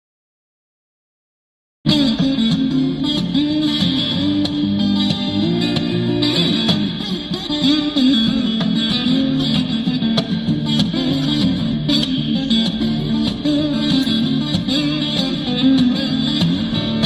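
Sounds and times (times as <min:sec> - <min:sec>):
guitar-led music: 0:01.9 - 0:17.0.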